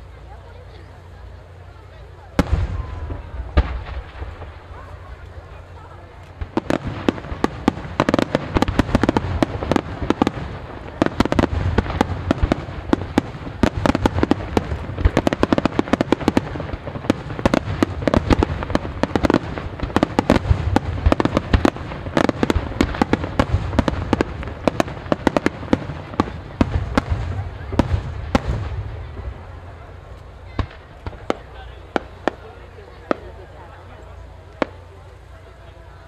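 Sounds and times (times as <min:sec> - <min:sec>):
fireworks bangs: 0:02.3 - 0:36.0.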